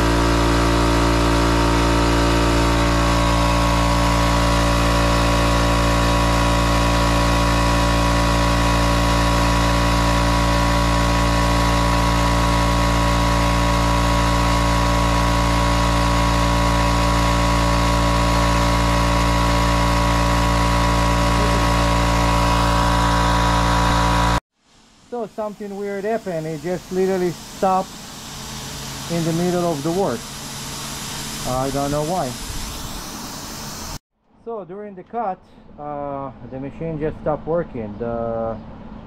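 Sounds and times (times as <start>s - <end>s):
plasma cutter hissing: 0.0s - 24.4s, 25.1s - 34.0s.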